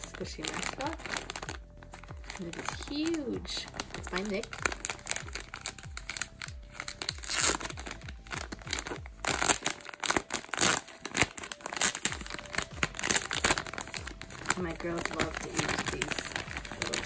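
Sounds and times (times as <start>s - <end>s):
plastic bag crinkling and tearing: 0.0s - 17.0s.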